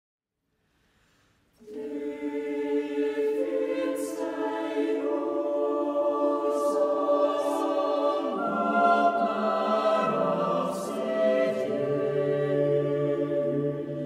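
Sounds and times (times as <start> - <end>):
choir singing a hymn: 1.6 - 14.0.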